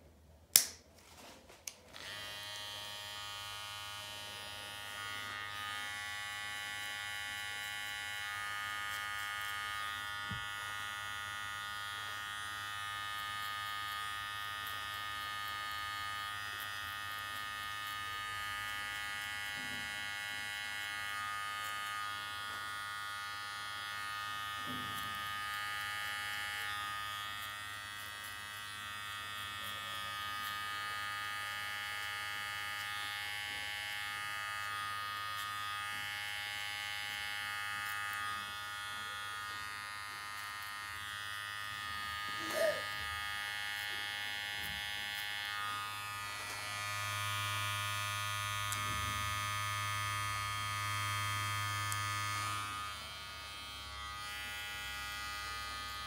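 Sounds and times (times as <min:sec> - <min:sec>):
electric hair clipper buzzing: 0:00.5 - 0:00.8, 0:01.5 - 0:56.0.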